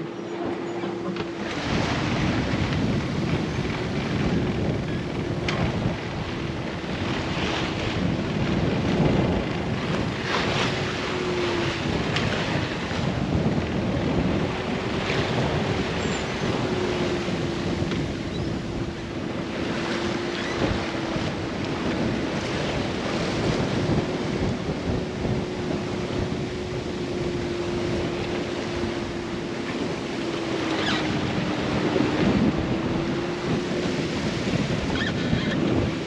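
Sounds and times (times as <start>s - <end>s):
breaking waves rushing: 0.0s - 36.0s
wind buffeting microphone: 0.0s - 36.0s.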